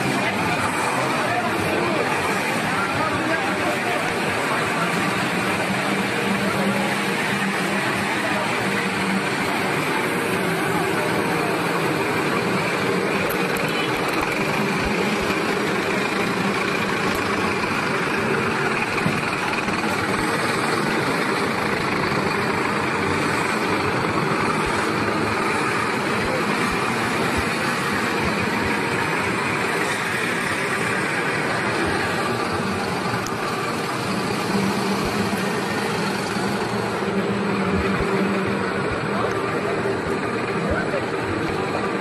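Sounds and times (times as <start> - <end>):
motor vehicle engines running: 0.0 - 42.0.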